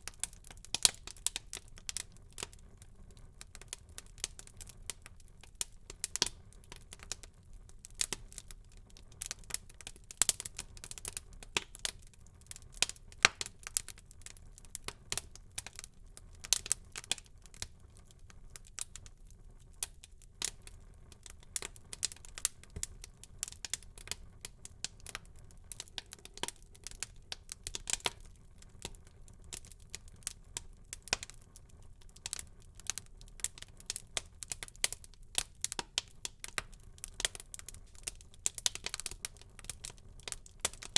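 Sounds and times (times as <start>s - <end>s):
low hiss of burning fire: 0.0s - 40.9s
wood fire popping and snapping: 0.0s - 40.9s.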